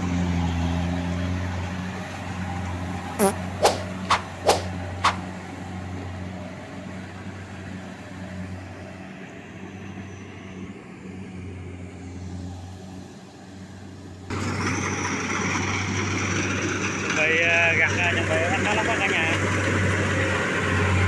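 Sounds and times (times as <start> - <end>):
combine harvester engine humming: 0.0 - 21.0.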